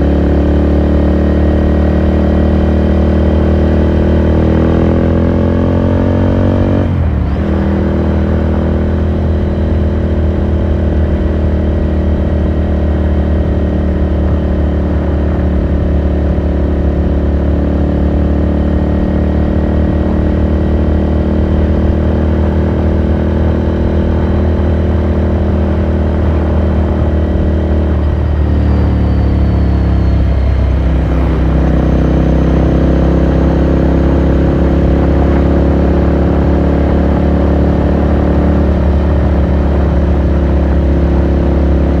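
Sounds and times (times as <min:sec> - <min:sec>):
motorcycle engine: 0:00.0 - 0:42.0.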